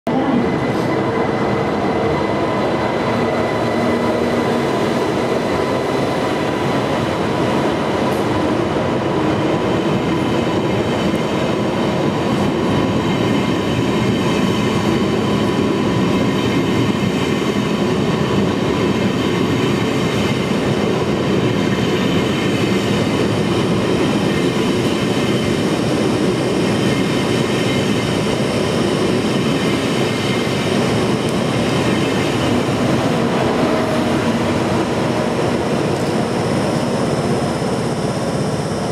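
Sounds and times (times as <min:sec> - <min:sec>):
train wheels rolling on rail: 0:00.1 - 0:38.9.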